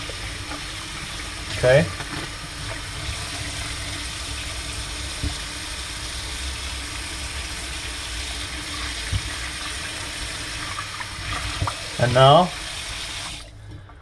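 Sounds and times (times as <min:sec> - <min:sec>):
tap water running into sink: 0:00.0 - 0:13.5.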